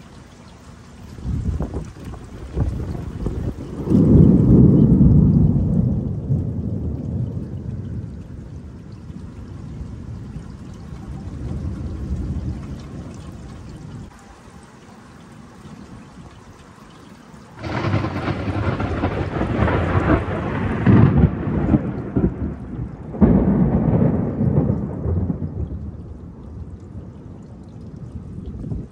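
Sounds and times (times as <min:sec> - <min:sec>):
steady rain: 0:00.0 - 0:28.9
thunder rumbling: 0:01.2 - 0:14.1, 0:17.6 - 0:28.9.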